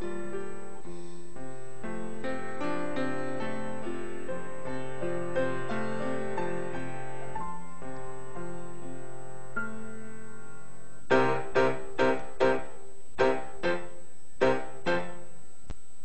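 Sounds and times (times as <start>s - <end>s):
piano chords: 0.0s - 15.7s.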